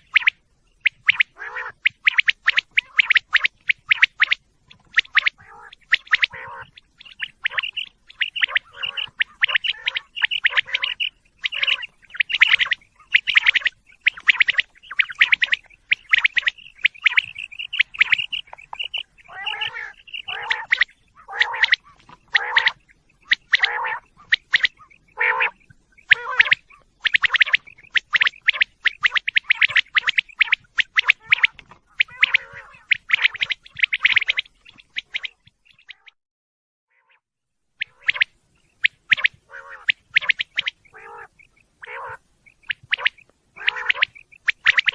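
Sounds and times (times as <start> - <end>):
quail calling: 0.0 - 36.2, 37.8 - 44.9.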